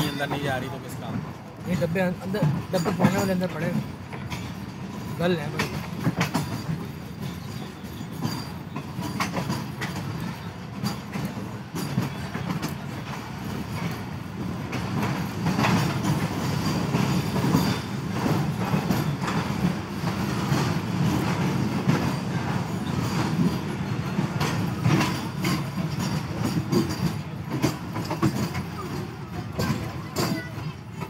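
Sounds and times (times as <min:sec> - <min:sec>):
clickety-clack of train wheels: 0:00.0 - 0:31.0
train rumbling: 0:00.0 - 0:31.0.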